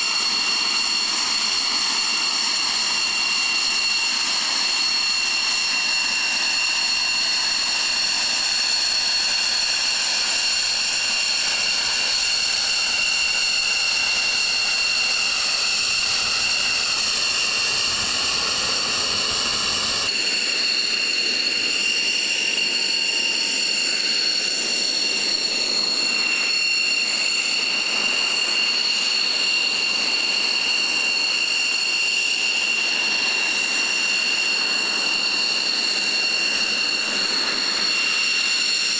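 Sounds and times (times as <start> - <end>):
jet engine whine: 0.0 - 38.9.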